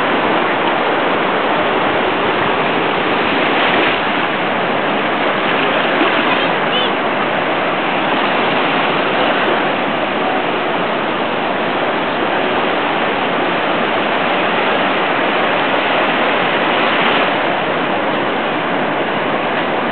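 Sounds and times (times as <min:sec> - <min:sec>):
surf breaking on beach: 0:00.0 - 0:19.9.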